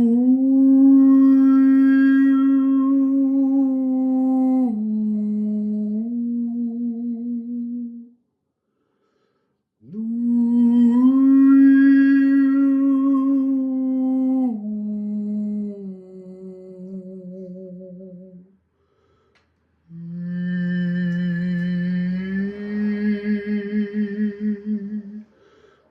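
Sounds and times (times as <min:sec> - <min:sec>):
man humming a slow melody: 0:00.0 - 0:08.1, 0:09.8 - 0:18.5, 0:19.9 - 0:25.3.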